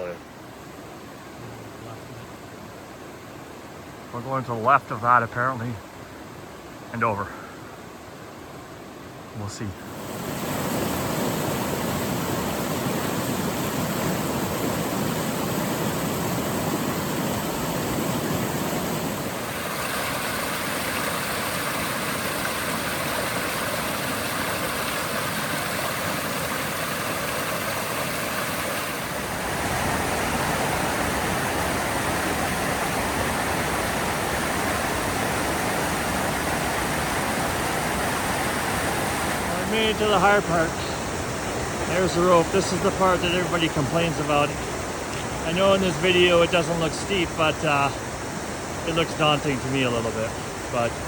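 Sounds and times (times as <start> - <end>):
rushing creek water: 0.0 - 51.0.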